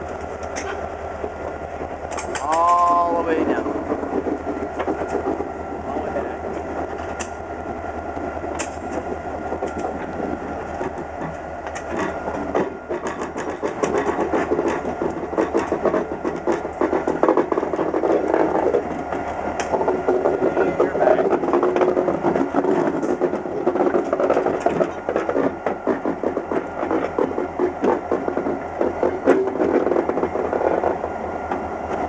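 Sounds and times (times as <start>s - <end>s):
locomotive engine hum: 0.0s - 32.0s
wheels clanking on track: 0.0s - 32.0s.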